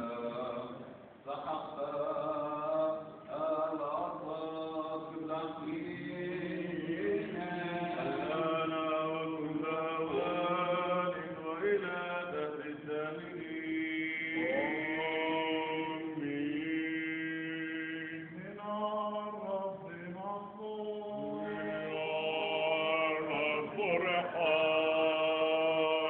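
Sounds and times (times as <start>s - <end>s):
unaccompanied voices chanting: 0.0s - 26.0s.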